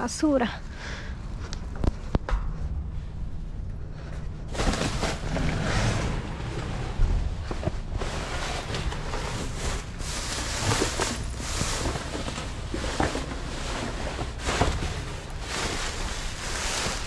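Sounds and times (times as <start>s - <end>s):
rustles: 1.3s - 17.0s.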